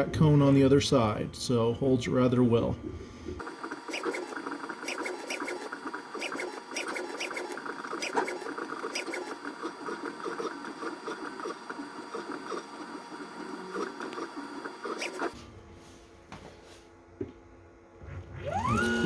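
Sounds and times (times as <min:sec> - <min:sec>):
stepper motors whining: 0:00.0 - 0:15.4, 0:18.0 - 0:19.0.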